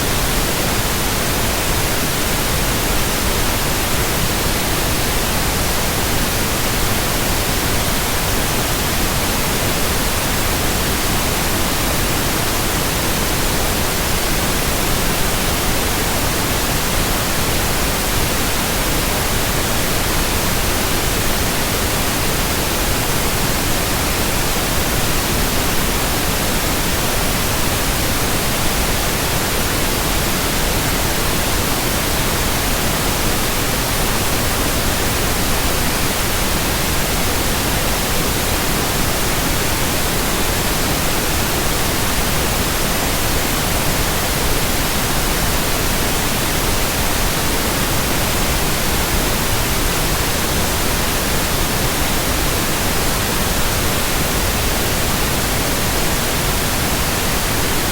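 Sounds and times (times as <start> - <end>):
steady white-noise hiss: 0.0 - 57.9.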